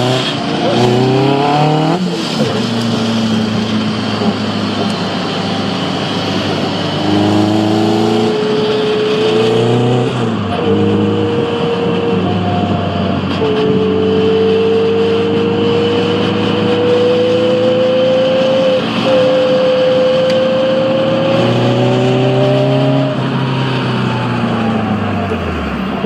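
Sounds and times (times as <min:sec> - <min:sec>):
car engine pulling under load: 0:00.0 - 0:26.0.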